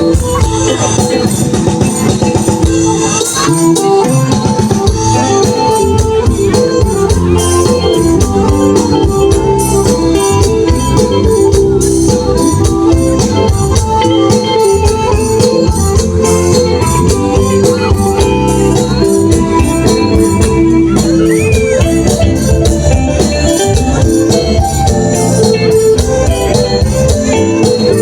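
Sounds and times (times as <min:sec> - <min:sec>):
electronic organ melody: 0:00.0 - 0:28.0
steady beat with tambourine: 0:00.0 - 0:28.0.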